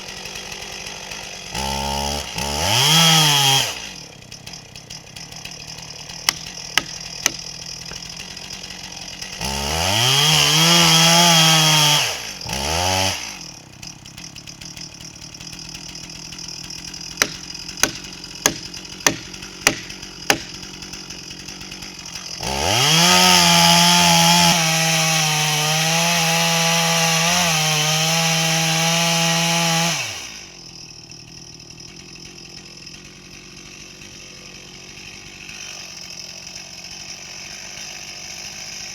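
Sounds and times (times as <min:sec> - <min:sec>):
chainsaw cutting wood: 0:00.0 - 0:38.9
chainsaw idling and revving: 0:00.0 - 0:38.9.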